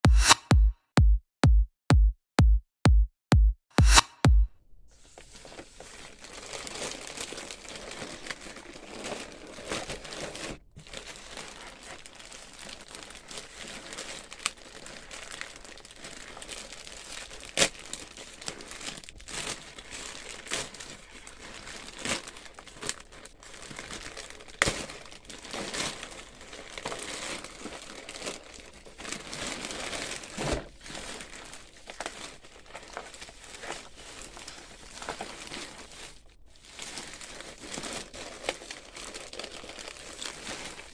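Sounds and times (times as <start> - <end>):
packaging crinkling and rustling: 5.0 - 40.9.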